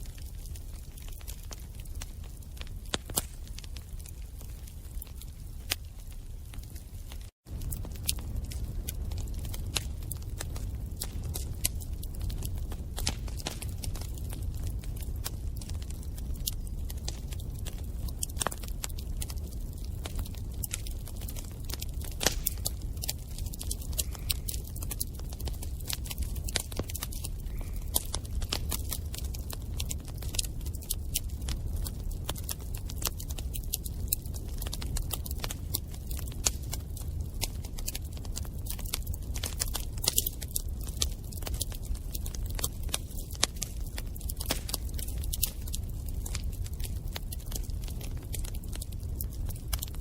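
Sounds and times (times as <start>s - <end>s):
bonfire crackling and popping: 0.0s - 50.0s
low rumble of flames: 0.0s - 50.0s.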